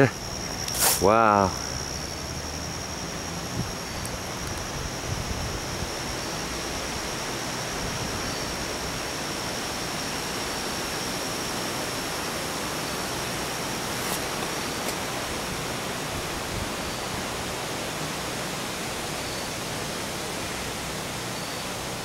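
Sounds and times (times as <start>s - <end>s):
faint high-pitched whine: 0.0s - 22.0s
steady rushing hiss: 0.0s - 22.0s.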